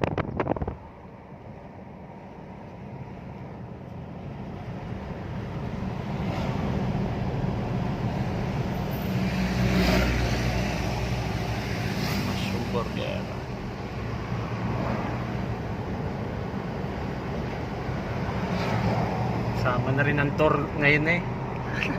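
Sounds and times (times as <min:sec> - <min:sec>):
road noise: 0:00.0 - 0:21.9.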